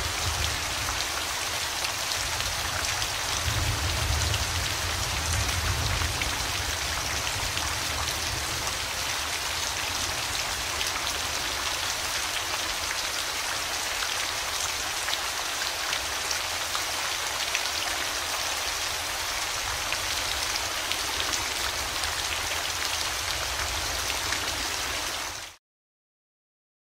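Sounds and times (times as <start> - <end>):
steady rain falling: 0.0 - 25.6.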